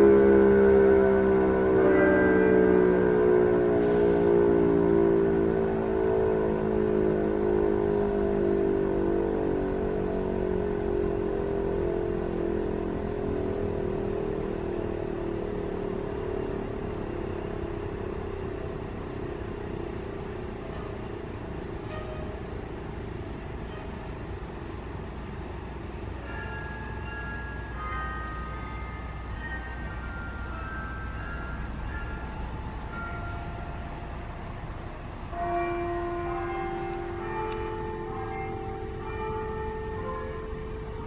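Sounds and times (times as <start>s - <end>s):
crickets chirping: 0.0s - 41.0s
warning siren winding down: 0.0s - 41.0s.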